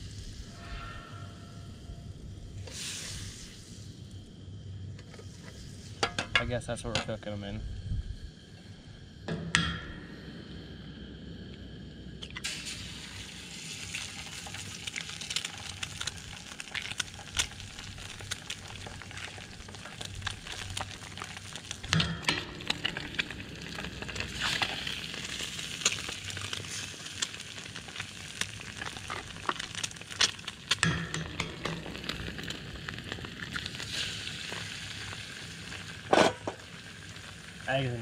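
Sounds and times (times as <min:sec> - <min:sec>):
eggs sizzling in a pan: 0:02.4 - 0:07.6, 0:11.9 - 0:38.0.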